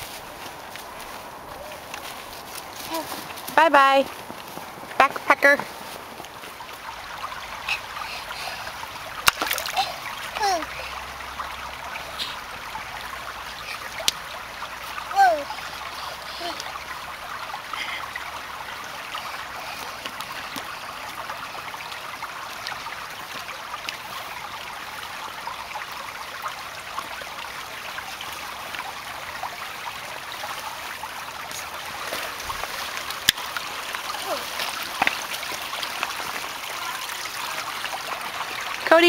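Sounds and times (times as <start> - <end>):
creek babbling over stones: 0.0 - 39.0.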